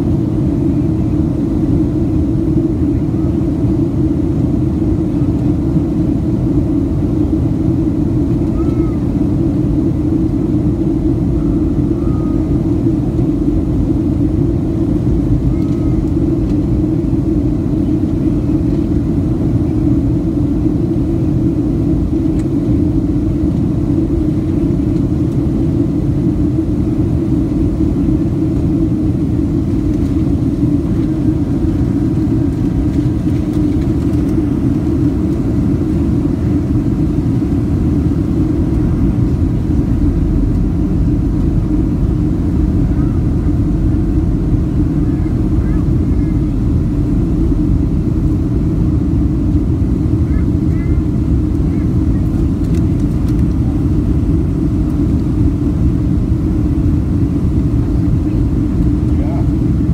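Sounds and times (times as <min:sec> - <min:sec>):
airliner cabin roar: 0:00.0 - 0:59.9.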